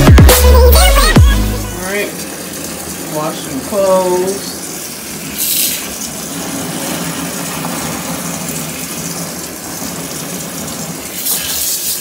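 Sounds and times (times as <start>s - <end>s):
washing machine motor hum: 0.0s - 12.0s
water churning: 0.0s - 12.0s.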